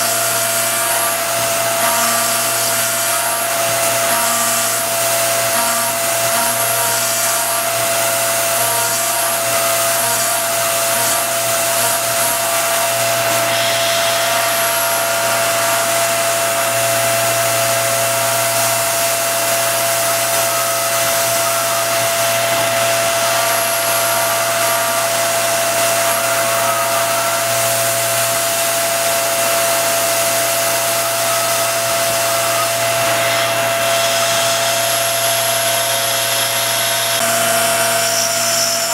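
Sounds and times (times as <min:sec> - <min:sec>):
milling machine hum and whine: 0:00.0 - 0:38.9.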